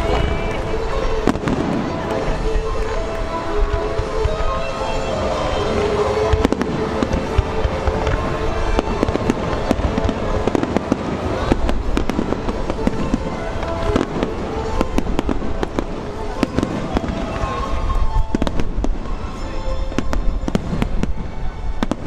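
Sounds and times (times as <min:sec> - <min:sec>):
firework bursts and crackling: 0:00.0 - 0:22.0
music with held tones: 0:00.0 - 0:22.0.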